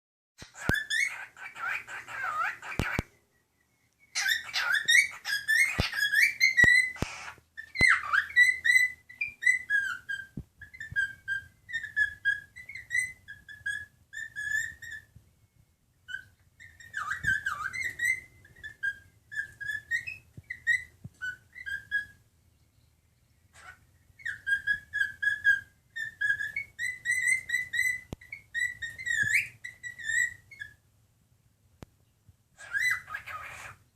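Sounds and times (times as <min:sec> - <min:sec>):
cockatiel whistling: 0:00.4 - 0:22.2, 0:23.5 - 0:30.8, 0:32.6 - 0:33.8.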